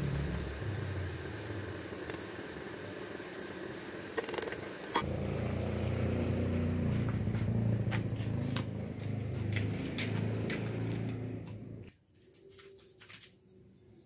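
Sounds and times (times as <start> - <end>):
forced-air blower whirring: 0.0 - 11.8.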